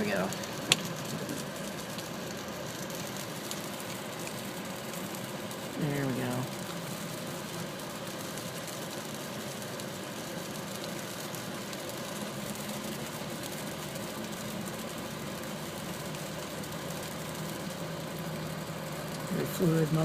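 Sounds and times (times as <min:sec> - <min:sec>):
steady motor hum: 0:00.0 - 0:20.0.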